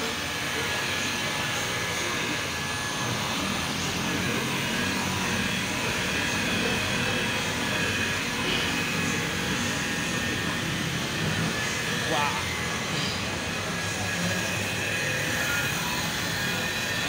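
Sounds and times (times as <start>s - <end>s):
electric rotary polisher running: 0.0s - 17.0s.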